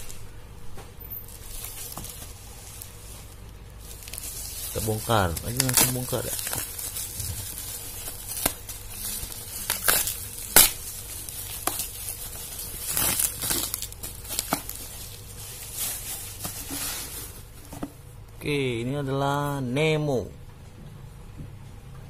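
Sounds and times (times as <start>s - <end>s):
bubble wrap packaging crinkling: 0.0s - 18.0s.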